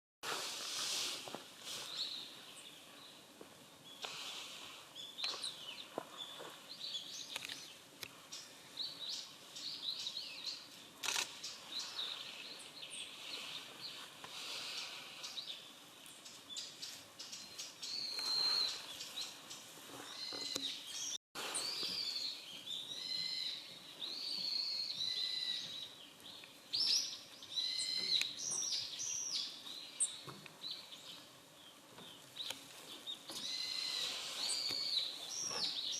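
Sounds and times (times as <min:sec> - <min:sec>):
birds high chirping calls: 0:03.8 - 0:35.9.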